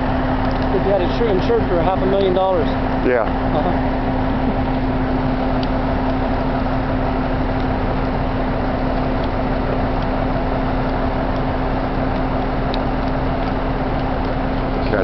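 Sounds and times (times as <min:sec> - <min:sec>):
engine humming: 0:00.0 - 0:15.0
faint crackles: 0:00.0 - 0:15.0.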